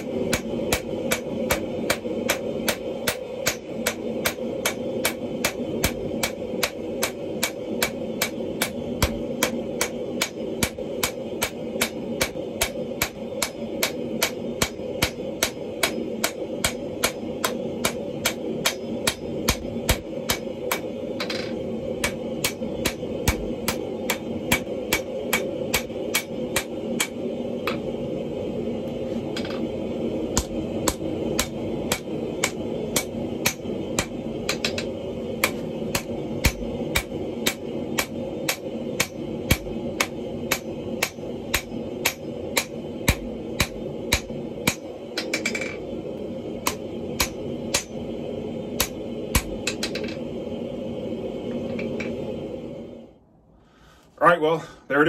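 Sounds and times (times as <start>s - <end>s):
hammer striking hot iron on anvil: 0.0s - 28.0s, 29.3s - 45.9s, 46.6s - 48.1s, 48.7s - 50.2s.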